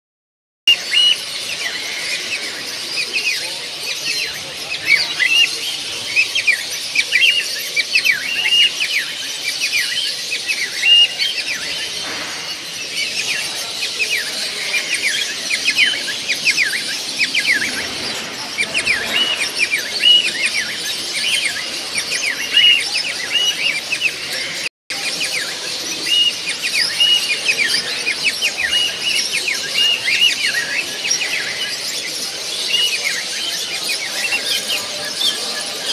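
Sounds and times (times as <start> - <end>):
birds chirping and squealing: 0.7 - 35.9.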